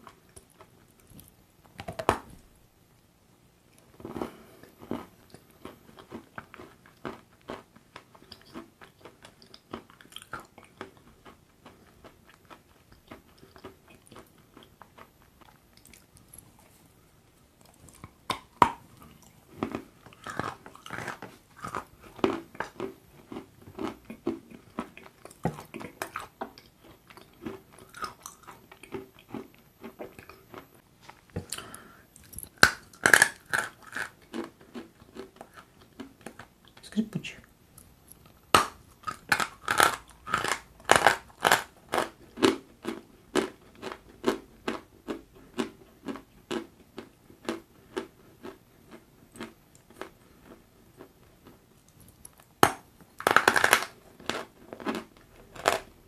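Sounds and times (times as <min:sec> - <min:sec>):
crunching and chewing: 0:00.0 - 0:02.3, 0:03.7 - 0:36.8, 0:37.8 - 0:56.0.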